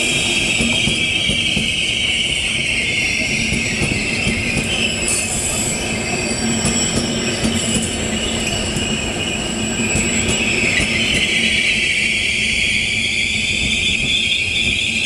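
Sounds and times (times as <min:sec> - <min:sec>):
high-pitched wheel squeal: 0:00.0 - 0:15.0
train wheels rumbling on rails: 0:00.0 - 0:15.0.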